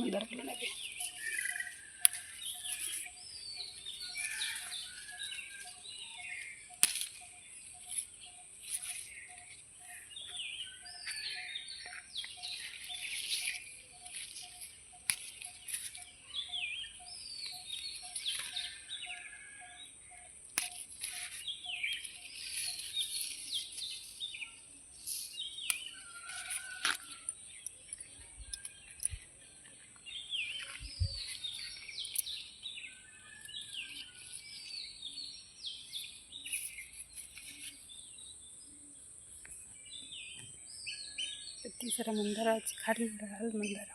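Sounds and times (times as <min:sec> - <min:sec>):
birds singing and chirping: 0:00.0 - 0:43.9.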